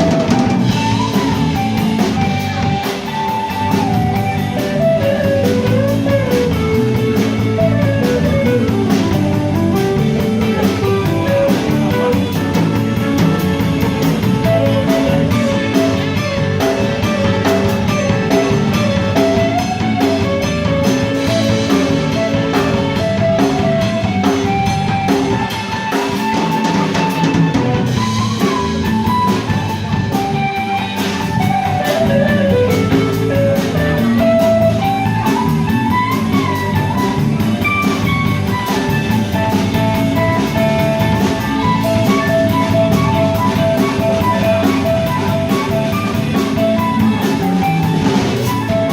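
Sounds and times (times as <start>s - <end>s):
drums: 0.0s - 48.9s
lead guitar melody: 0.0s - 48.9s
rhythm guitar: 0.0s - 48.9s.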